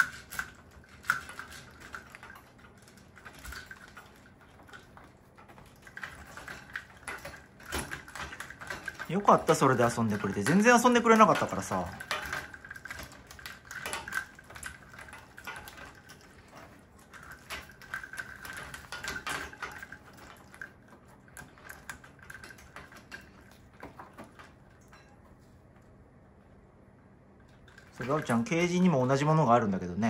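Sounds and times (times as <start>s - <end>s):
bird rattling plastic toy: 0.0s - 25.1s, 27.6s - 29.8s.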